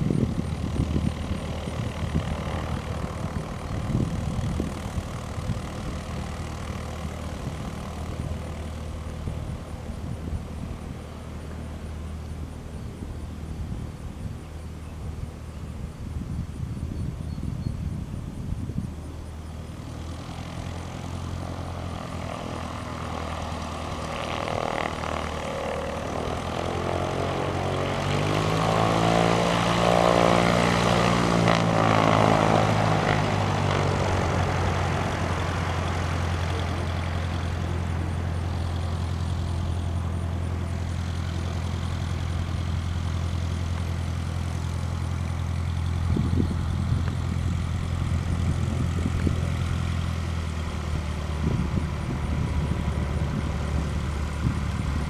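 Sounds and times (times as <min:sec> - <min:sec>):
light plane engine and propeller: 0:00.0 - 0:55.0.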